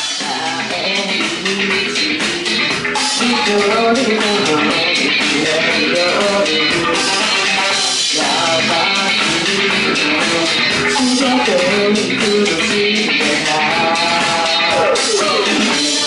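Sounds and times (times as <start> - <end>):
person singing into a microphone: 0.0 - 16.0
rock backing music with guitar: 0.0 - 16.0.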